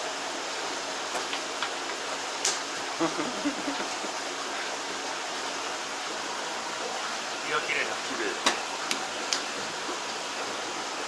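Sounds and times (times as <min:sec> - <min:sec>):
aquarium water rushing hiss: 0:00.0 - 0:11.0.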